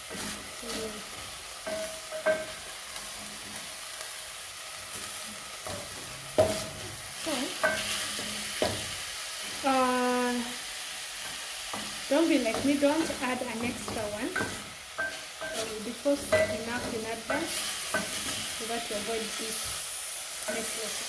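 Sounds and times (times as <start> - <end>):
meat sizzling in a pot: 0.0 - 21.0.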